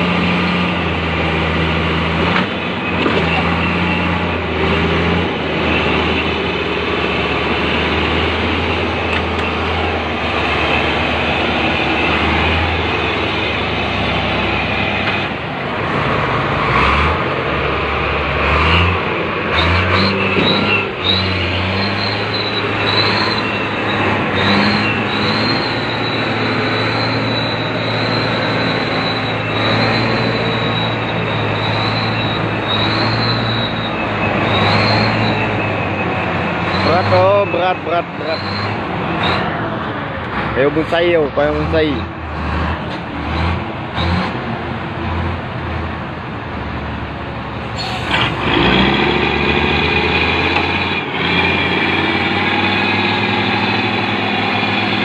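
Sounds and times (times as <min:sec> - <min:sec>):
heavy diesel engines under load: 0:00.0 - 0:55.0.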